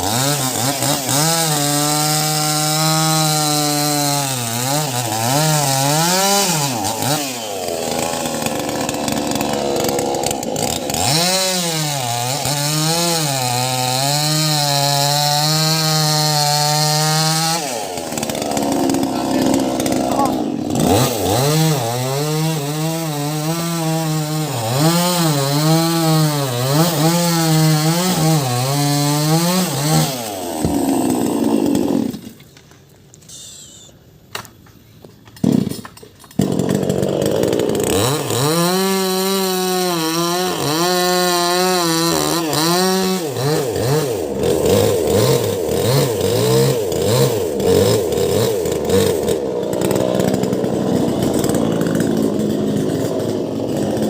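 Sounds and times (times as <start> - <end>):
chainsaw running at high revs: 0.0 - 32.4, 35.4 - 35.8, 36.4 - 54.0.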